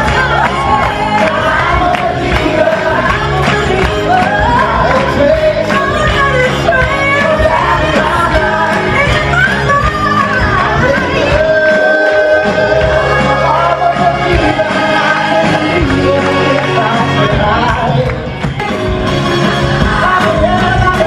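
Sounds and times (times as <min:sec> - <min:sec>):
cast singing with band: 0:00.0 - 0:18.0.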